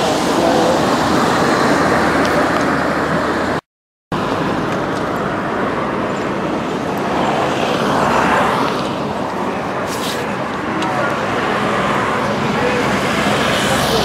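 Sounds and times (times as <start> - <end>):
traffic road noise: 0.0 - 14.0.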